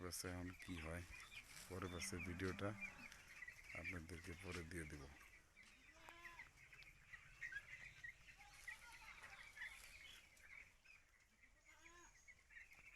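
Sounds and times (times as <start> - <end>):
chicks peeping: 0.0 - 12.9.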